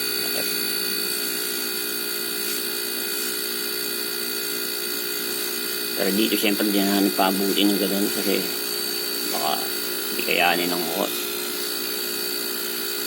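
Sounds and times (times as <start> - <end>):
air compressor humming and whining: 0.0 - 13.0.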